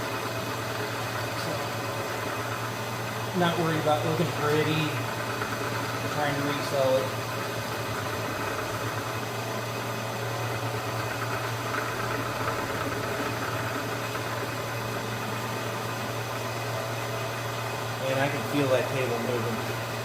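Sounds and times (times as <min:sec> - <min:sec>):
milling machine humming: 0:00.0 - 0:20.0.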